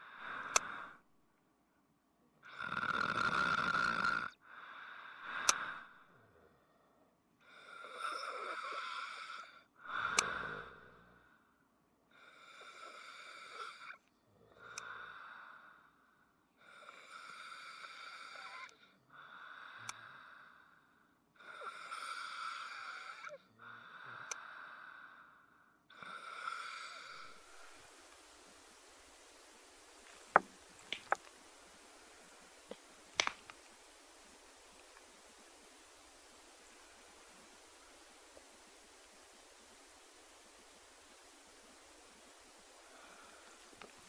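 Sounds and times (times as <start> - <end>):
person breathing noisily in sleep: 0.0 - 1.1, 2.4 - 44.0.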